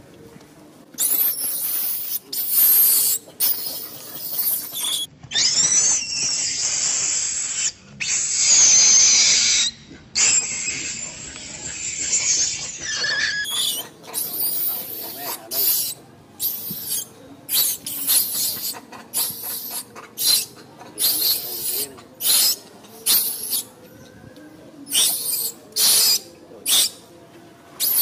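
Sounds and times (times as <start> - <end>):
monkeys screaming and squealing: 1.0 - 23.8, 24.8 - 27.1, 27.8 - 28.0.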